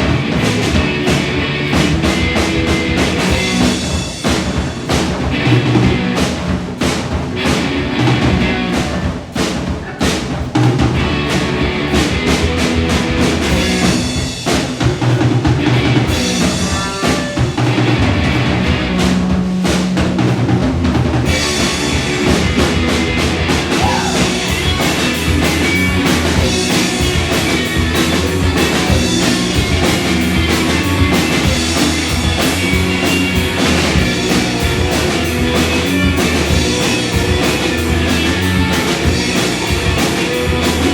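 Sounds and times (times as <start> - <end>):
bass guitar: 0.0 - 40.9
drum kit accents: 0.0 - 40.9
electric guitars: 0.0 - 40.9.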